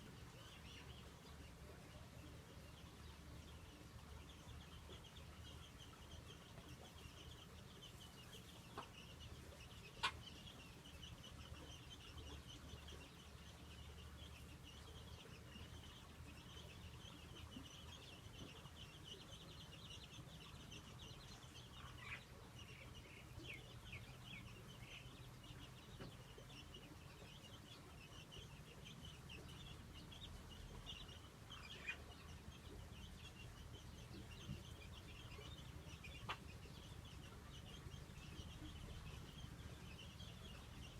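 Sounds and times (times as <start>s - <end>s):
faint bird chirping: 0.0s - 40.9s.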